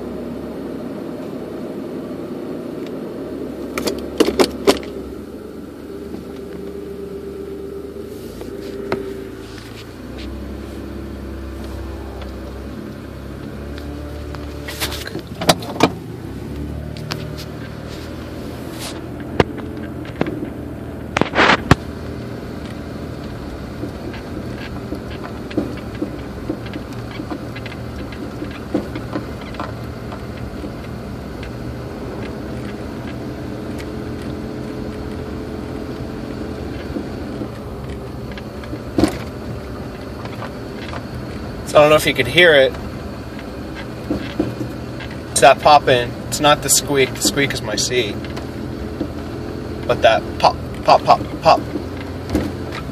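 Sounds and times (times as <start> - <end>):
engine and road noise: 0.0 - 52.9
seat squeaking: 3.6 - 52.9.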